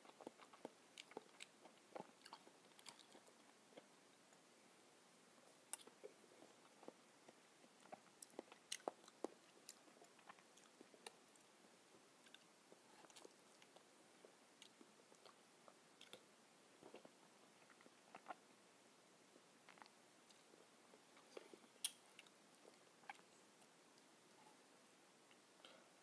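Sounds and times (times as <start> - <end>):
faint chewing with mouth clicks: 0.0 - 4.5, 5.4 - 18.6, 19.4 - 26.0.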